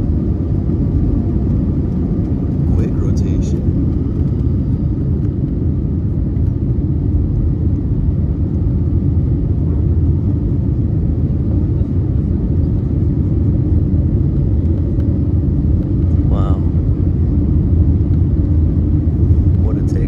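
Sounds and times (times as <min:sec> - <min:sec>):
jet engines roaring in cabin: 0:00.0 - 0:20.0.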